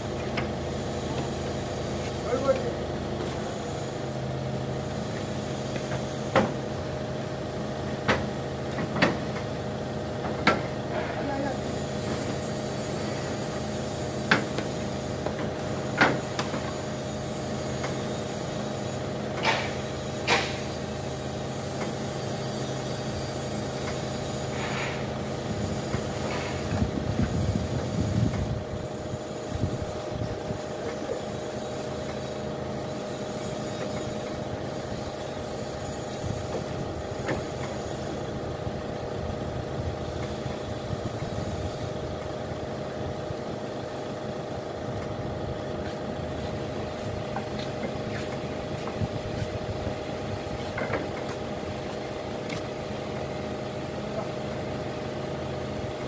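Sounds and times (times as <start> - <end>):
forklift engine idling: 0.0 - 56.0.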